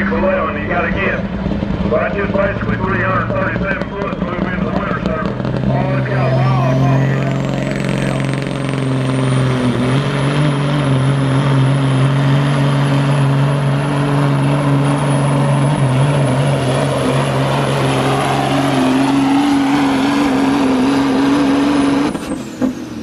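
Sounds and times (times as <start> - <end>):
diesel truck engine droning: 0.0 - 23.0.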